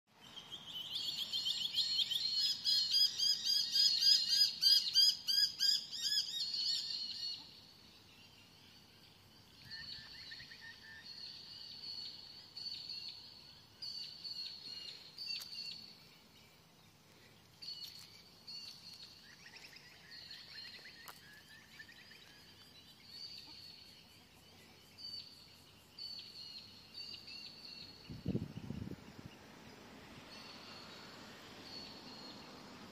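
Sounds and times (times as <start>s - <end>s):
small birds chirping: 0.1s - 32.9s.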